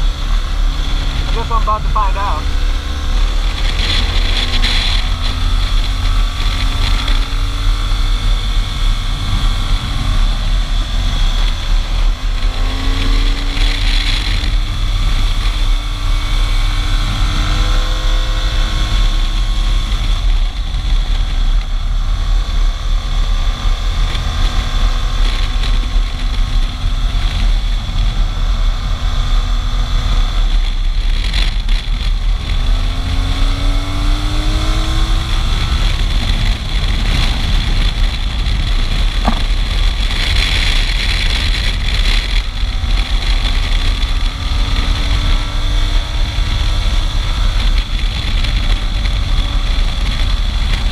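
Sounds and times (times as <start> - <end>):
motorcycle engine accelerating: 0.0 - 50.9
wind rumble on microphone: 0.0 - 50.9.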